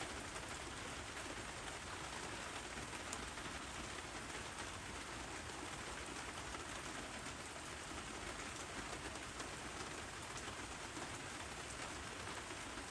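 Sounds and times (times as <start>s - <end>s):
steady rain falling: 0.0s - 12.9s.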